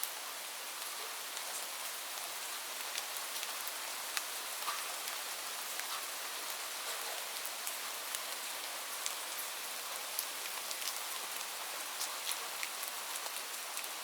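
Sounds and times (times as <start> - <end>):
light rain hissing: 0.0 - 14.0
raindrops ticking on a surface: 0.0 - 14.0.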